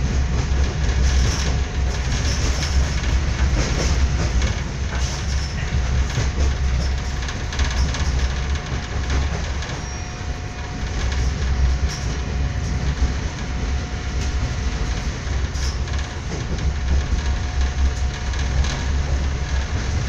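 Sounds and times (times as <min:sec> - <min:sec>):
train rumbling on track: 0:00.0 - 0:20.0
train wheels clicking: 0:00.0 - 0:20.0.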